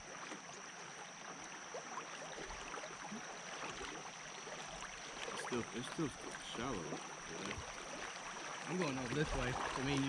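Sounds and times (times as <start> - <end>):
small drips and ticks: 0.0 - 10.0
water sloshing and trickling: 0.0 - 10.0.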